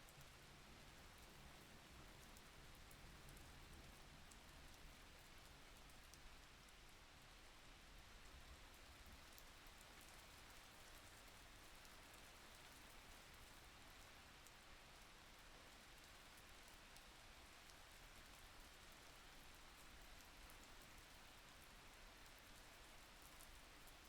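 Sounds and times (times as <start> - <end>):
faint rain falling: 0.0 - 24.0.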